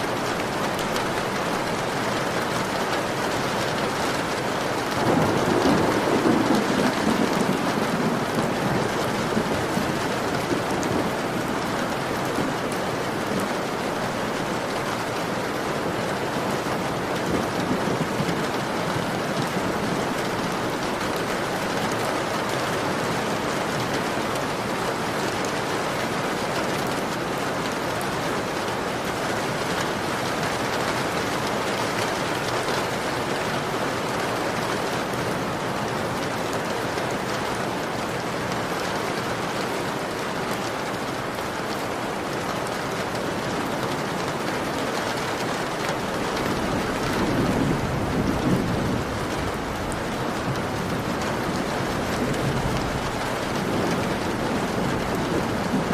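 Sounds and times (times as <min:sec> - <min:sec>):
heavy rain on window: 0:00.0 - 0:55.9.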